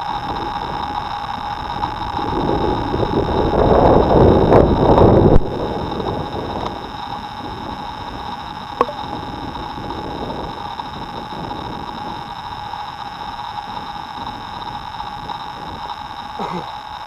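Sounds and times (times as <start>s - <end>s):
hiss: 0.0s - 17.0s.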